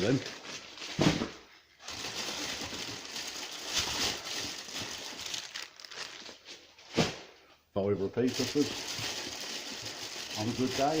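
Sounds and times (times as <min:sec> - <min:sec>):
packaging rustling and crinkling: 0:00.0 - 0:06.9, 0:08.2 - 0:11.0.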